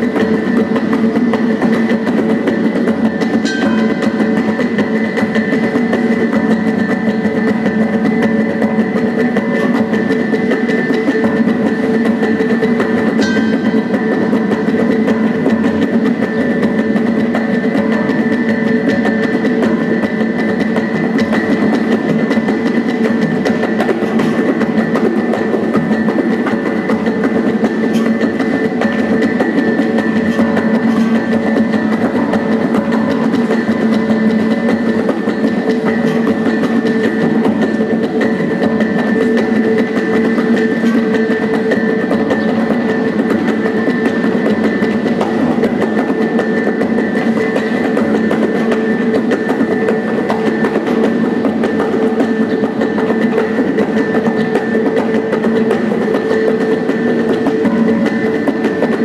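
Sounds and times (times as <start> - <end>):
fast dense drumming: 0.0 - 59.0
sustained ringing tones: 0.4 - 50.2.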